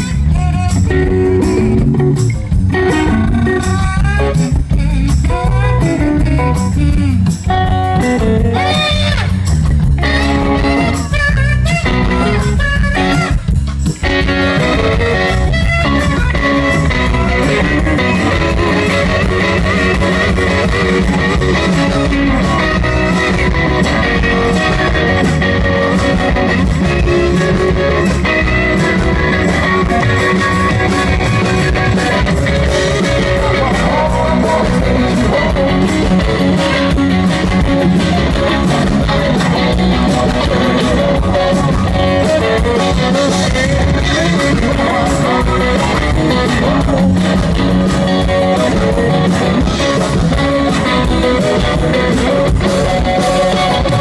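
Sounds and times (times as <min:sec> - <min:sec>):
bass guitar: 0:00.0 - 0:54.0
electric guitar: 0:00.0 - 0:54.0.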